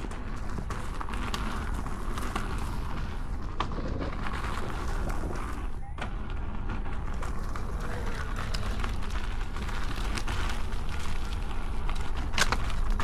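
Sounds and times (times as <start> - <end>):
tyre crunching on dirt: 0.0 - 5.7, 6.7 - 13.0.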